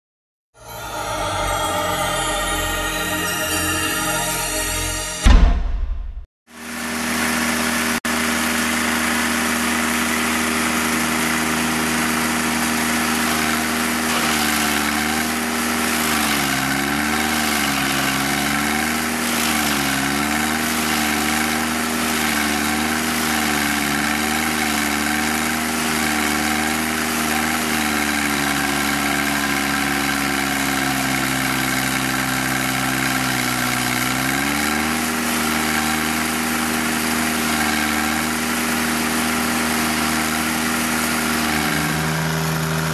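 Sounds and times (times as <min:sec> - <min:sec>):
stump grinder engine running: 0:06.6 - 0:42.9.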